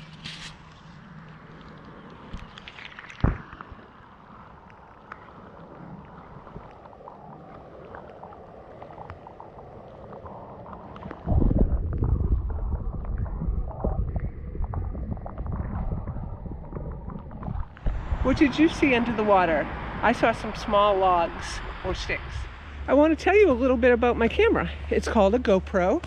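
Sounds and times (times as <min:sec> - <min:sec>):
faint outdoor ambience: 0:00.0 - 0:12.5, 0:15.7 - 0:26.0
muffled underwater rumble: 0:00.0 - 0:26.0.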